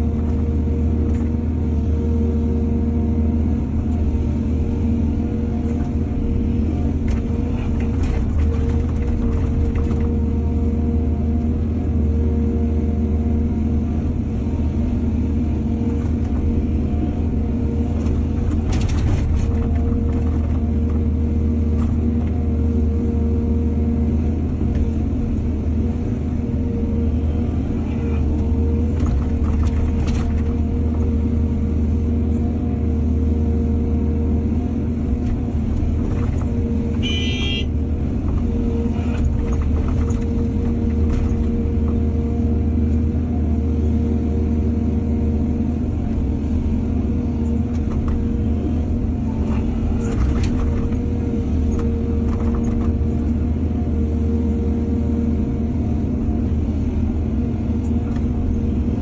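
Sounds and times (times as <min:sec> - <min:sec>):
heavy diesel machinery humming: 0:00.0 - 0:59.0.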